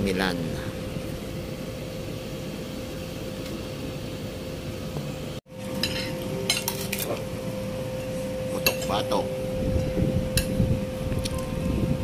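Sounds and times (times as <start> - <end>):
constant fan hum: 0.0 - 12.0
restaurant room noise: 0.0 - 12.0.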